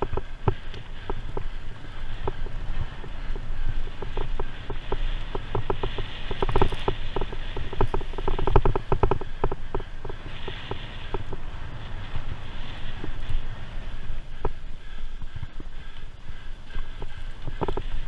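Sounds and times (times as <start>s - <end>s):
tyres rumbling on dirt: 0.0s - 14.8s
bike rattling and clattering: 0.0s - 18.0s
wind on microphone: 0.0s - 18.0s.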